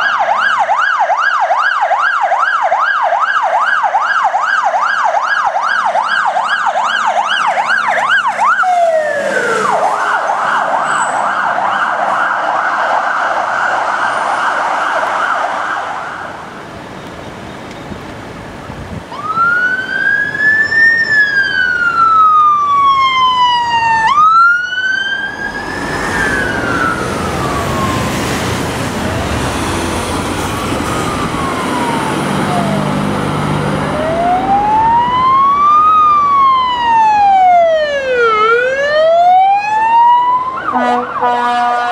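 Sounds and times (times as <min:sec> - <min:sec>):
fire truck siren yelp: 0:00.0 - 0:16.9, 0:19.0 - 0:41.9
fire truck siren wail: 0:00.0 - 0:17.0, 0:19.0 - 0:41.9.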